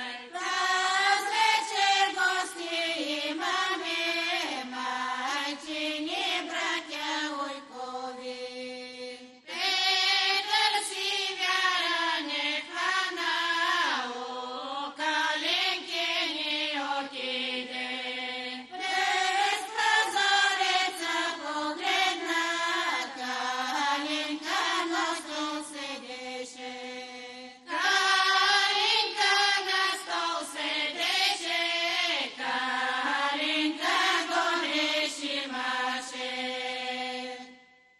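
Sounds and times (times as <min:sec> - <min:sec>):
women singing unaccompanied: 0:00.0 - 0:37.7.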